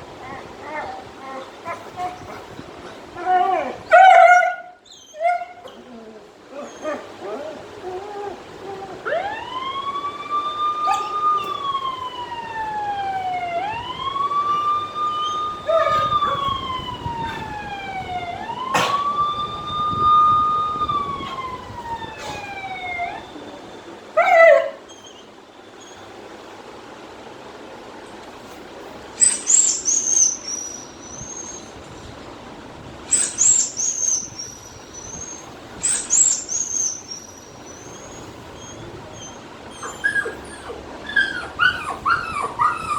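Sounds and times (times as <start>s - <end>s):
wailing siren: 0.0s - 25.3s, 29.2s - 42.9s.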